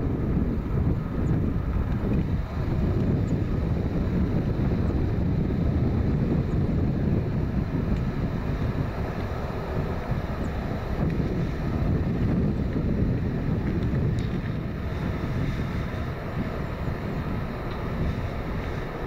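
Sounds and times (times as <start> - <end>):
distant airliner rumble: 0.0 - 19.0
wind noise on microphone: 0.0 - 19.0.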